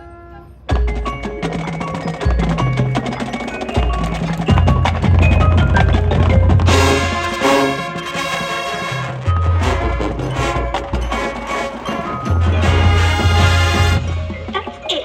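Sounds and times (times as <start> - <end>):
glockenspiel and marimba: 0.1 - 15.0
marching band music: 0.1 - 15.0
drums: 0.2 - 15.0.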